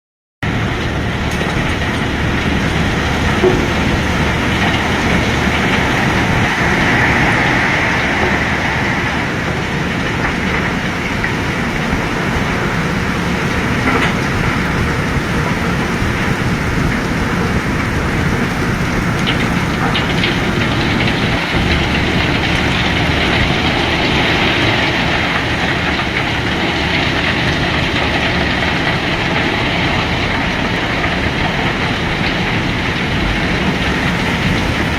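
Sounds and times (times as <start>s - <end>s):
heavy machinery running: 0.4s - 34.9s.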